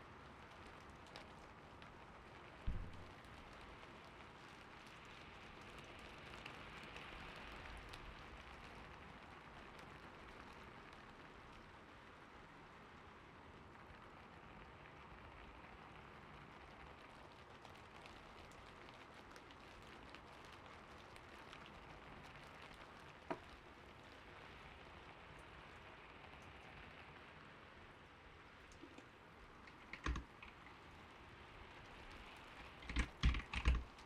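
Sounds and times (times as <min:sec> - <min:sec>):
gentle rain pattering: 0:00.0 - 0:34.0.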